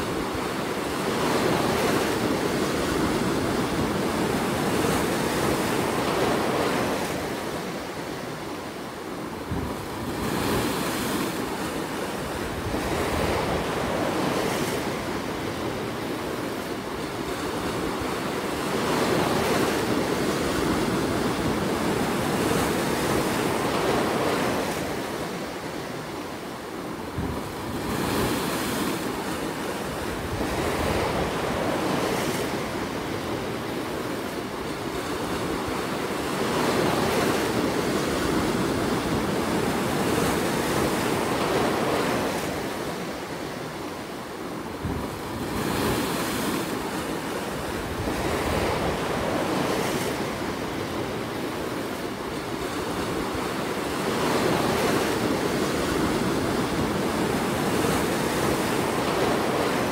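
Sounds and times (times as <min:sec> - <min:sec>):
surf washing through rocks: 0:00.0 - 0:59.9.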